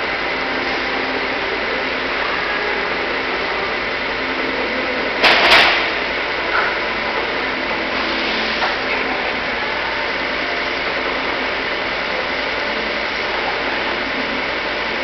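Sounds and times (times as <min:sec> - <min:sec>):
metalworking machinery running: 0:00.0 - 0:15.0.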